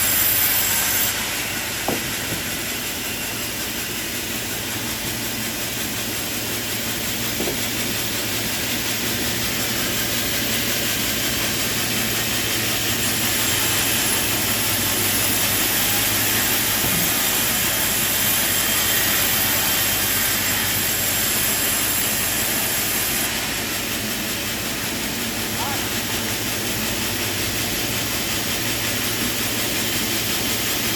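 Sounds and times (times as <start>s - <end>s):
sawmill machinery drone: 0.0s - 30.9s.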